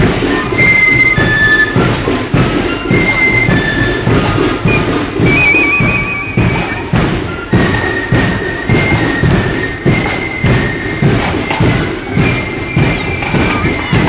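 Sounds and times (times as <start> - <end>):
high piping melody: 0.0 - 14.0
marching band playing: 0.0 - 14.0.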